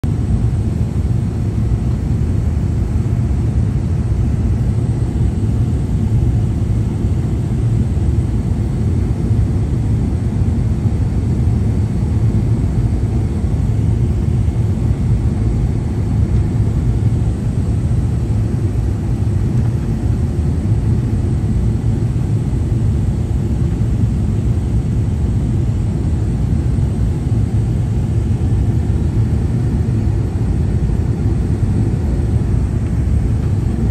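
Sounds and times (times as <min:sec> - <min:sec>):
airliner engines rumbling: 0:00.0 - 0:33.9.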